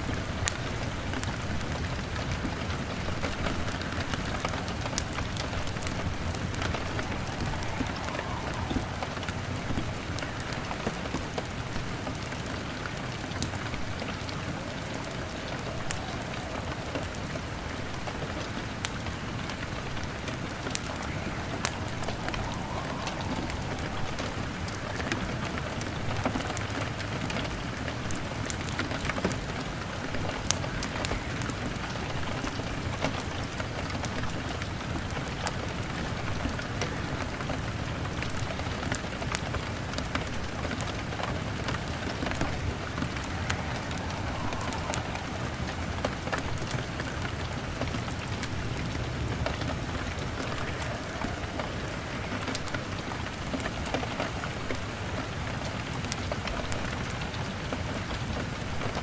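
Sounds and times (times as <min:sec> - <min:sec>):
log fire crackling: 0:00.0 - 0:59.0
rain pattering on a window: 0:00.0 - 0:59.0.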